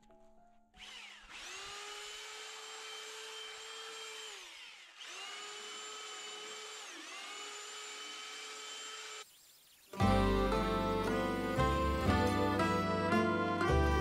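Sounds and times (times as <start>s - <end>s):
electric power tool motor whining: 0.8s - 9.4s, 10.0s - 14.0s.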